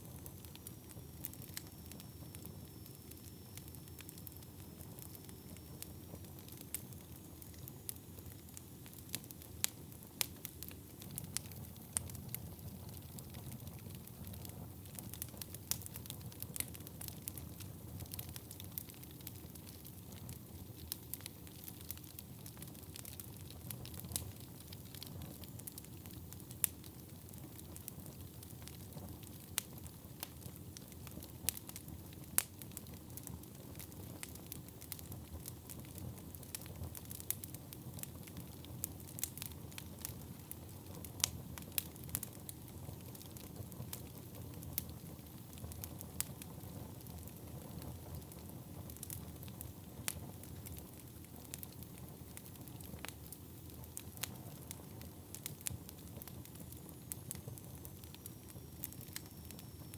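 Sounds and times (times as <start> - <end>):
low rumble of flames: 0.0 - 59.9
logs crackling and popping: 3.6 - 59.9.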